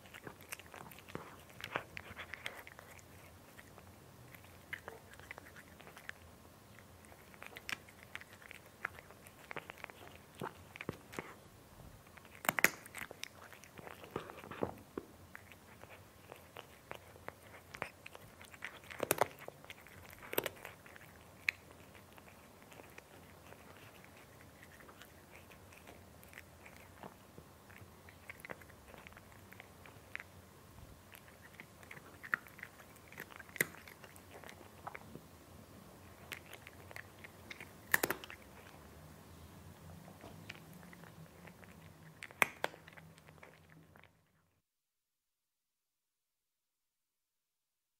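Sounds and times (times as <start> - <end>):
cat crunching food: 0.0 - 11.4, 12.0 - 35.3, 36.0 - 39.0, 39.9 - 44.4.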